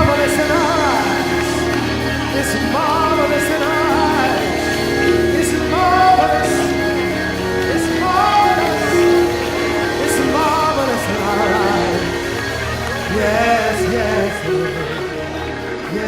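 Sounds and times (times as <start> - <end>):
keyboard chords: 0.0 - 16.0
worship music with singing: 0.0 - 16.0.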